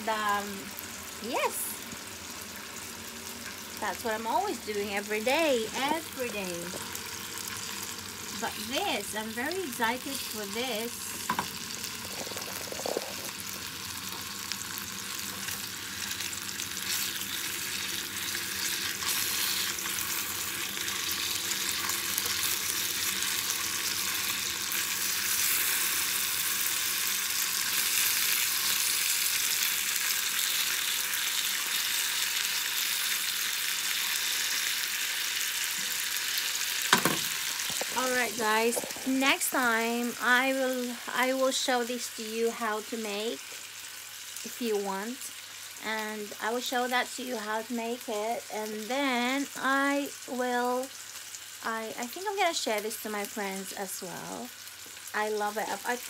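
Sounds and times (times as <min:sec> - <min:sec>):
sausages sizzling in oil: 0:00.0 - 0:56.0.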